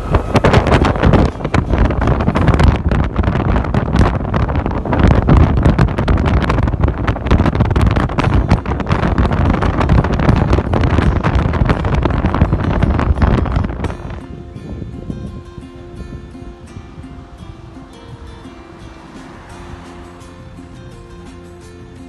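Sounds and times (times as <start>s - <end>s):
motorbike running: 0.0s - 16.8s, 17.6s - 22.0s
road noise: 0.0s - 22.0s
wind buffeting microphone: 0.0s - 22.0s.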